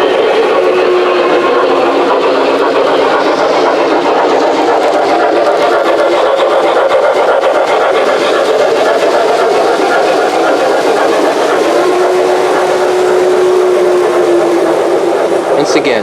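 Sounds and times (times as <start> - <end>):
model trains rumbling on track: 0.0 - 16.0.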